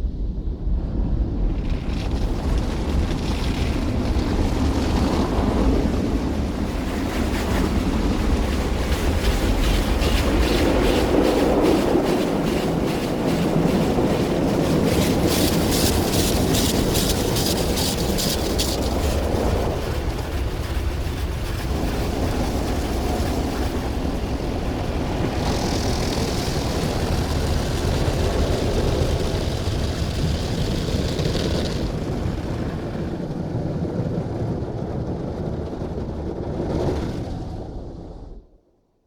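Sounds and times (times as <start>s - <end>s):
car wash water and machinery: 1.3s - 33.9s.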